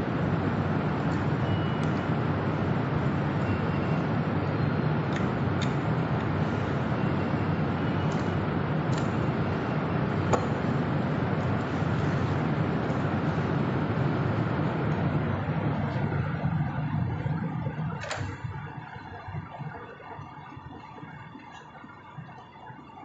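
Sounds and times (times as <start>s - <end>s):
machinery hum and hiss: 0.0s - 23.0s.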